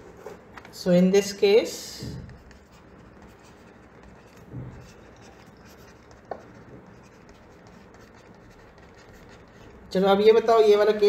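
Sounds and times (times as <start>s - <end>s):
stylus scratching on screen: 1.7s - 11.0s.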